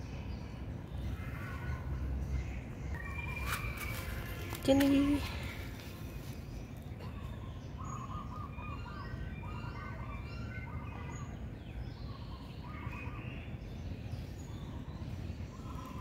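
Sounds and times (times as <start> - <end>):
birds chirping: 0.0 - 16.0
steady low rumble: 0.0 - 16.0.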